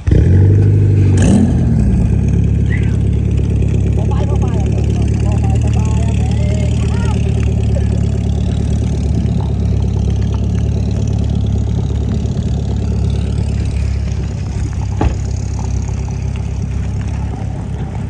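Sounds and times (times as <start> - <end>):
car engine idling: 0.0 - 18.0
engine knock: 0.1 - 18.0.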